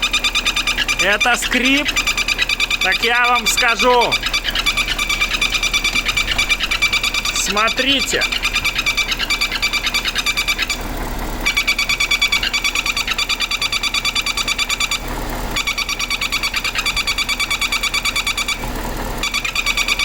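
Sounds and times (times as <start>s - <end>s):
car engine running: 0.0s - 20.0s
rapid high-pitched whistling chirps: 0.0s - 20.0s.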